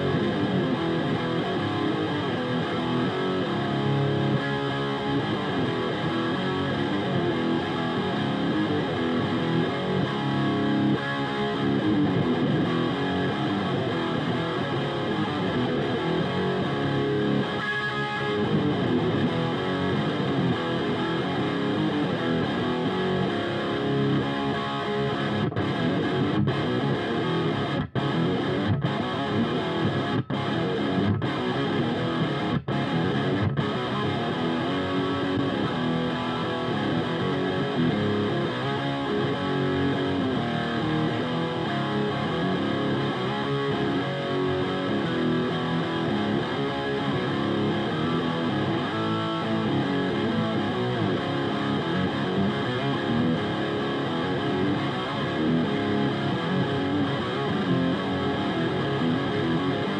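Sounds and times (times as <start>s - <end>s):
distorted metal guitar riffing: 0.0s - 59.9s.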